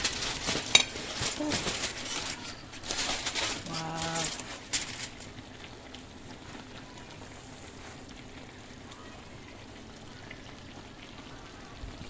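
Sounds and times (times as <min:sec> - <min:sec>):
chicken sizzling in pan: 0:00.0 - 0:12.0.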